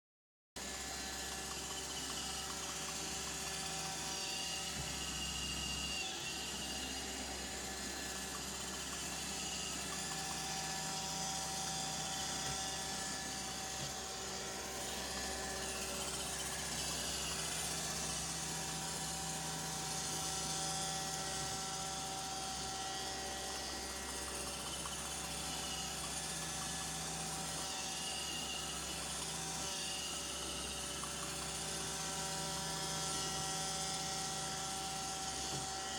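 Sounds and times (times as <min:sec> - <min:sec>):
robot vacuum whirring: 0:00.6 - 0:35.9.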